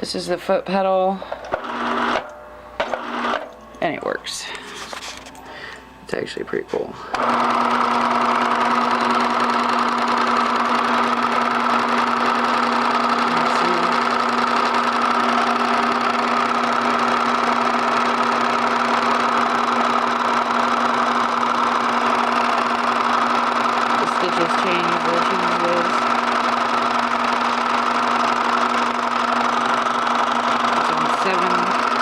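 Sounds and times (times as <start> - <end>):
sewing machine running: 1.5 - 3.4, 7.2 - 32.0.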